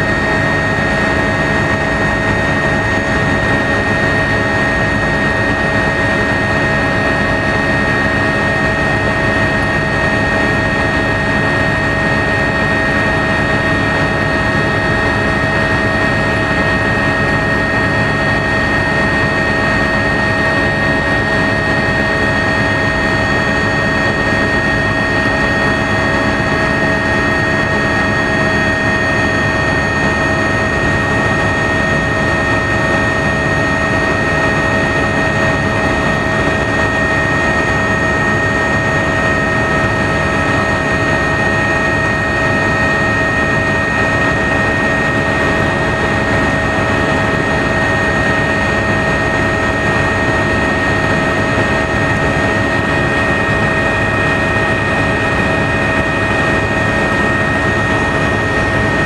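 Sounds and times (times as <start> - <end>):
helicopter engine and rotors: 0.0 - 59.0
turbine whining tones: 0.0 - 59.0.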